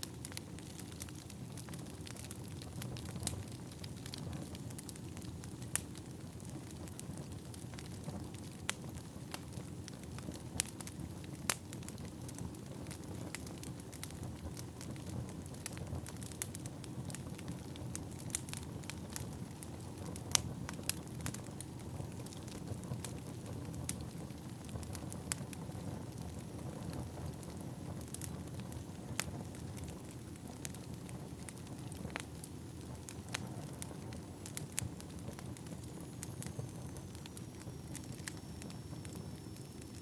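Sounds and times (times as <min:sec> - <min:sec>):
firewood burning with crackles: 0:00.0 - 0:40.0.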